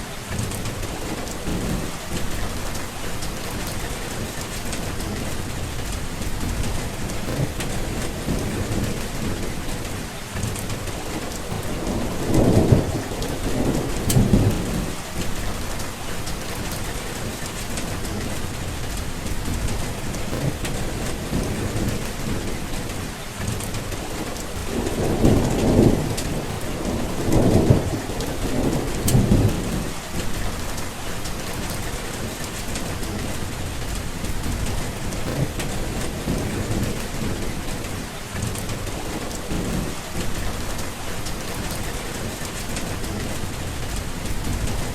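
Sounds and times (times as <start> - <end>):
heavy rain: 0.0 - 44.9
rolling thunder: 0.0 - 44.9.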